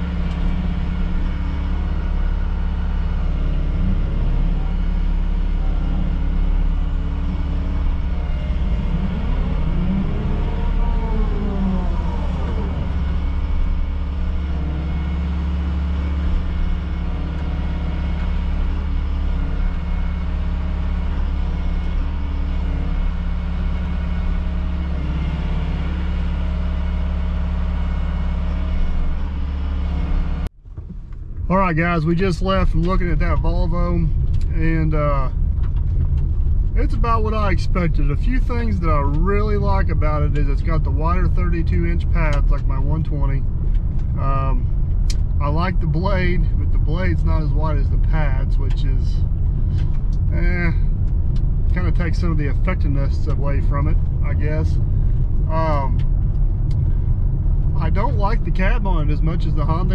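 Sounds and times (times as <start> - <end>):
rising and falling whine: 0.0 - 30.5, 31.7 - 59.9
diesel engine droning: 0.0 - 59.9.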